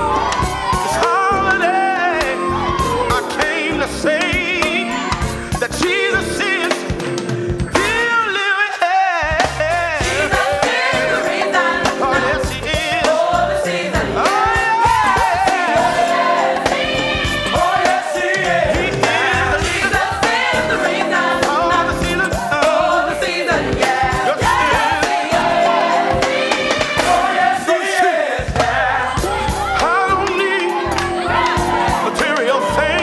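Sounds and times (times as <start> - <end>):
instrumental backing: 0.0 - 8.4, 9.4 - 27.8, 28.5 - 33.0
people singing: 0.0 - 33.0.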